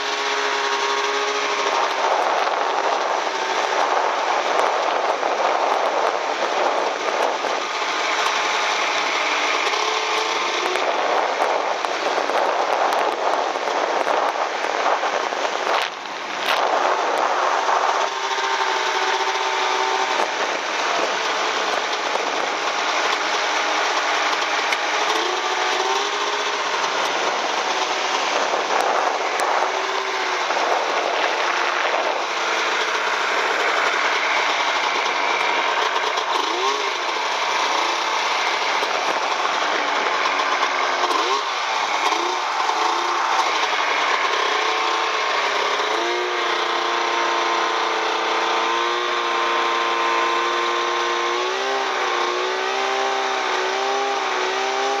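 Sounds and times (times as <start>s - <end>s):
snowmobile engine rattling: 0.0s - 55.0s.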